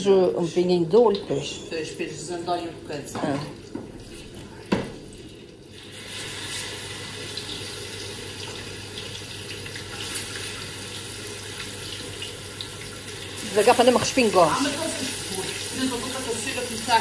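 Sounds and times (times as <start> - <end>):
meat sizzling in hot fat: 1.7 - 17.0.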